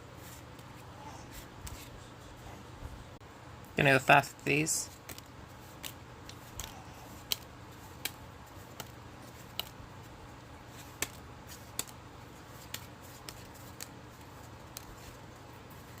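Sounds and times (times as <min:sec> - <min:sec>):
faint low hum: 0:00.0 - 0:16.0
cards being flipped: 0:00.2 - 0:02.0, 0:04.9 - 0:16.0.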